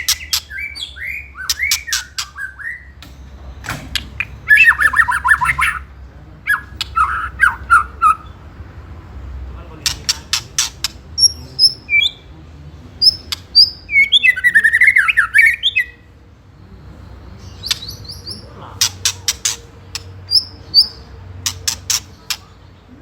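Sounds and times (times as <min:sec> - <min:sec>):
bird harsh chattering: 0:00.0 - 0:03.0, 0:04.0 - 0:08.7, 0:09.8 - 0:12.3, 0:13.0 - 0:16.1, 0:17.3 - 0:22.9.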